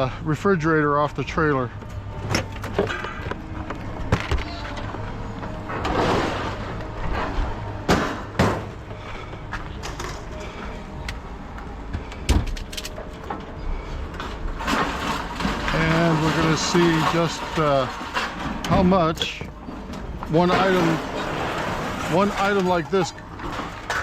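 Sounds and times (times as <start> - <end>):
knocks and clanks: 1.6 - 10.6, 11.6 - 24.0.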